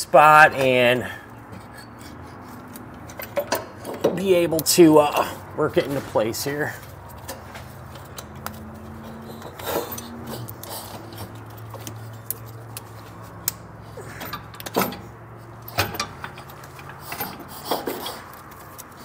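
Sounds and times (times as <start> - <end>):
metal brackets knocking and clicking: 0.3 - 6.0, 7.1 - 19.0.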